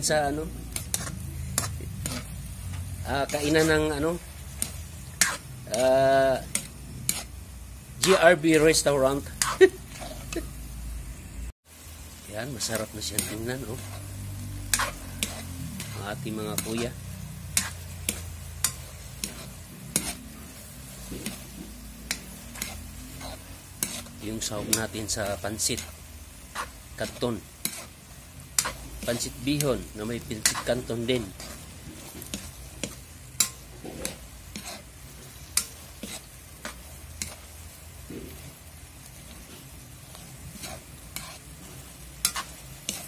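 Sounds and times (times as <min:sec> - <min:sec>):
metal spatula scraping wok: 0:00.0 - 0:10.6, 0:12.2 - 0:43.0
sauce sizzling: 0:00.0 - 0:43.0.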